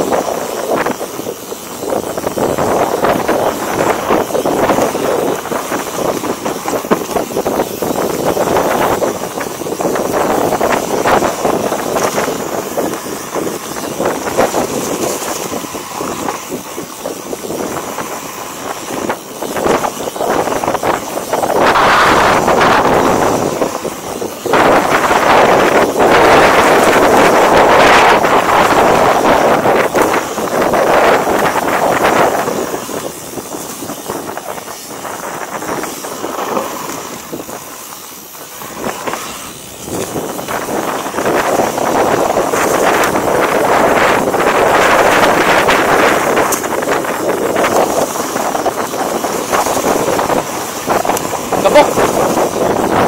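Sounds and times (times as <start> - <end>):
bike rattling and knocking: 0.0 - 53.0
tyres crunching on loose dirt: 0.0 - 53.0
wind buffeting microphone: 0.0 - 53.0.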